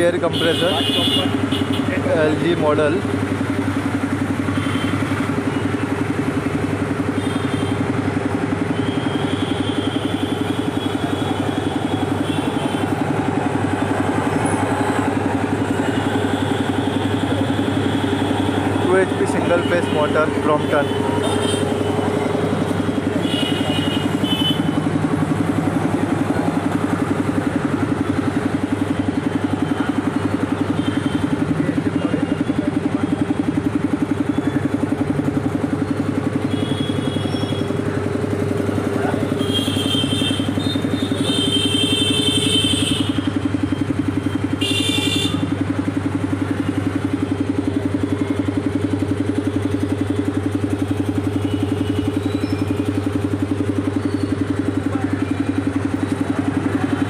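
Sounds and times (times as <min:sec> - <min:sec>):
air compressor chugging: 0:00.0 - 0:57.0.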